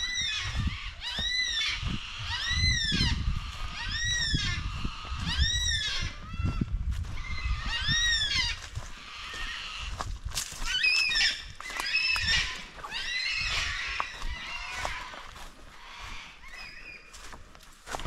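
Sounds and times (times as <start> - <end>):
birds giving harsh calls: 0.0 - 18.0.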